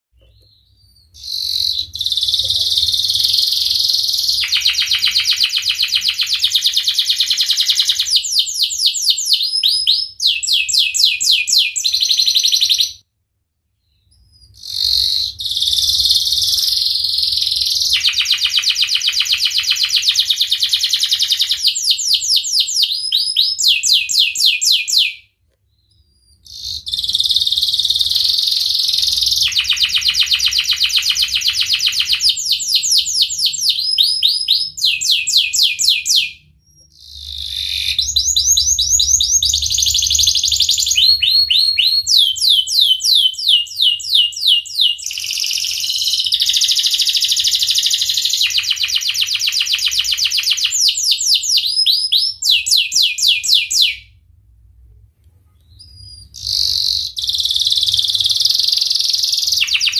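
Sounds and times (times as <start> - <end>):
canary singing trills: 0.2 - 13.0, 13.8 - 54.2, 55.6 - 59.9.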